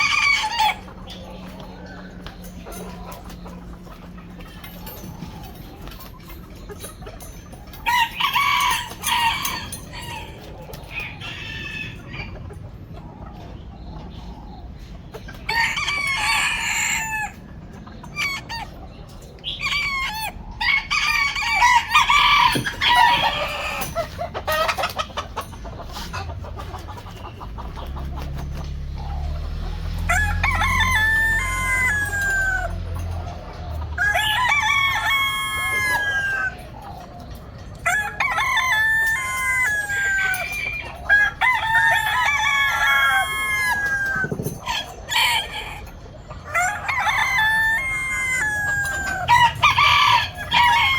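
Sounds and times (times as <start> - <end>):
hens clucking: 0.0 - 50.9
roosters crowing: 0.0 - 50.9.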